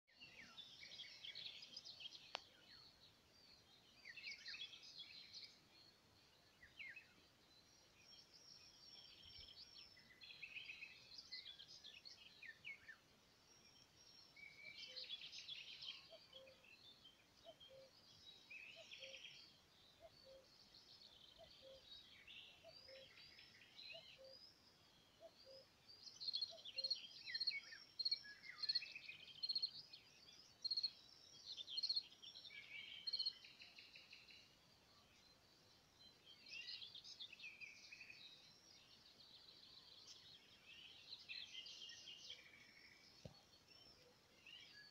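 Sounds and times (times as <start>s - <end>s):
birds chirping: 0.1s - 44.9s.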